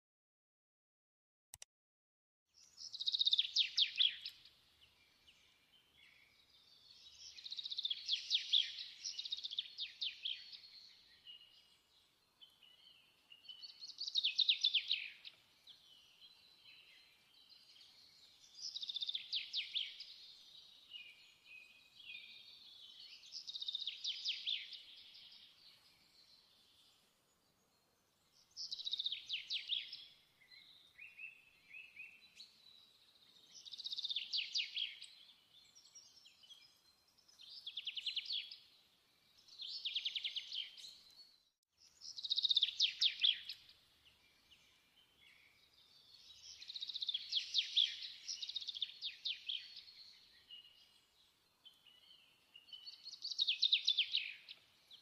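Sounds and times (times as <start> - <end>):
soft bird twittering: 2.6 - 55.0
songbird chirping trills: 2.6 - 55.0.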